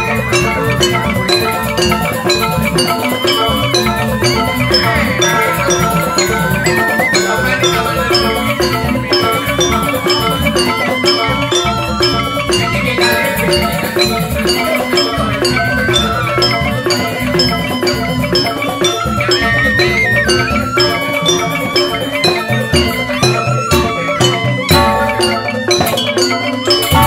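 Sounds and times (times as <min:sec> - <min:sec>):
bamboo xylophones playing: 0:00.0 - 0:27.0
barrel drum: 0:00.0 - 0:27.0.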